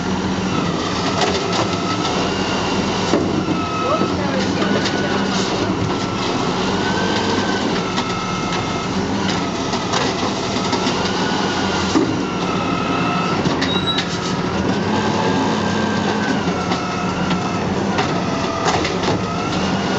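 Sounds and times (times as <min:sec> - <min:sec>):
garbage truck engine humming: 0:00.0 - 0:19.9
hydraulic whine: 0:00.0 - 0:19.9.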